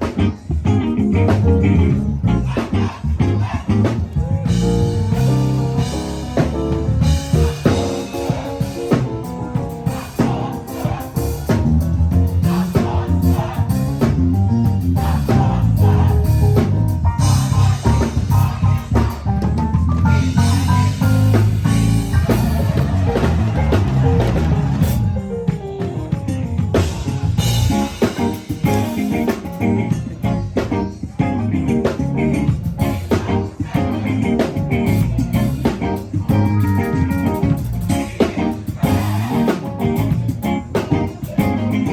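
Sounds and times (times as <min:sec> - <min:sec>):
live band playing: 0:00.0 - 0:41.9.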